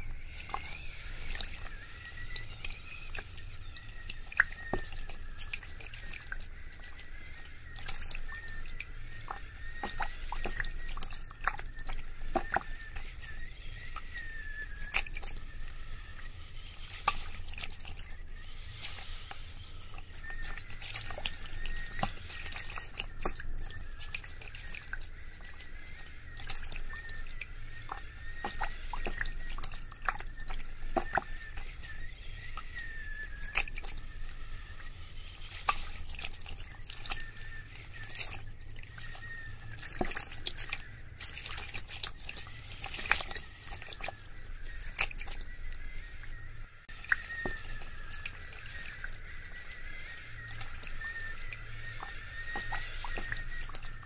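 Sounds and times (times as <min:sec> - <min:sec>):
faint wavering high tone: 0:00.0 - 0:54.0
water dripping and trickling: 0:00.0 - 0:54.0.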